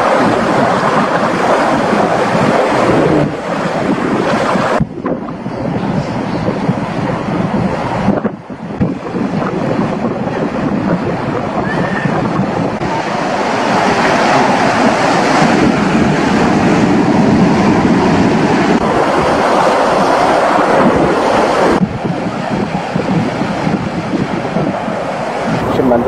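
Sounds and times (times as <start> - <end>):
surf breaking over rocks: 0.0 - 26.0.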